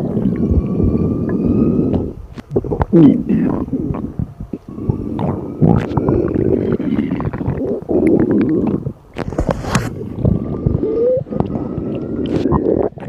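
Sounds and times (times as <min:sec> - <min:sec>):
stomach rumbling and gurgling: 0:00.0 - 0:13.0.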